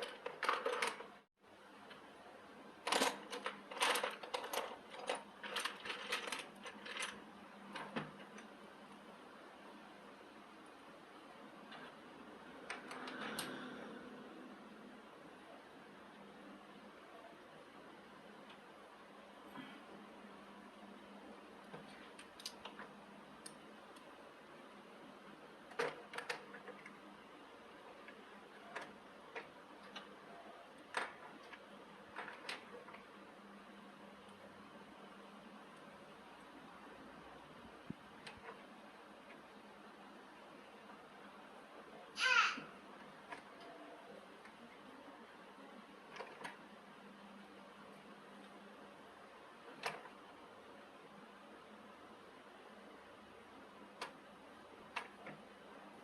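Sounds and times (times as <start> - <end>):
low steady hiss: 0.0 - 56.0.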